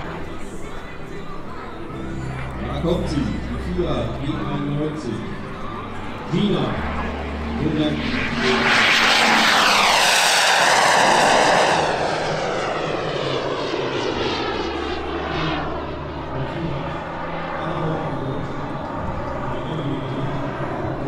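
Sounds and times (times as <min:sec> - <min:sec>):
model jet engine roar: 0:02.4 - 0:21.0.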